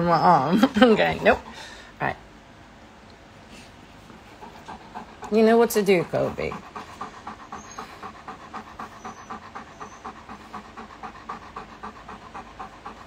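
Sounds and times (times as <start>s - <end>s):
dog panting: 0.7s - 2.2s, 3.6s - 13.0s.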